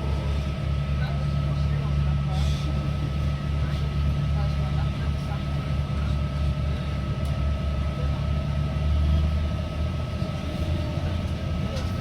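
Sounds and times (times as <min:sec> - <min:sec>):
train engine low drone: 0:00.0 - 0:12.0.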